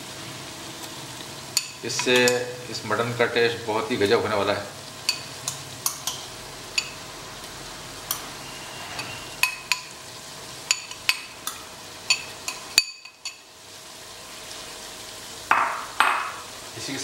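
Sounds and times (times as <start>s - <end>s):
onions sizzling in a pot: 0.0s - 17.0s.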